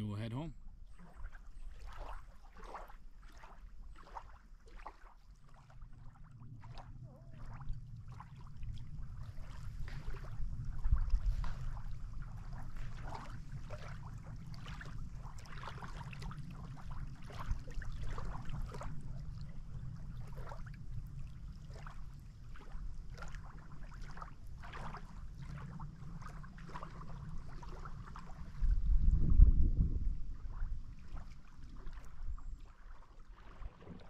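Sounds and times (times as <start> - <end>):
wind rumble on microphone: 0.0 - 34.0
water lapping and splashing: 0.4 - 34.0.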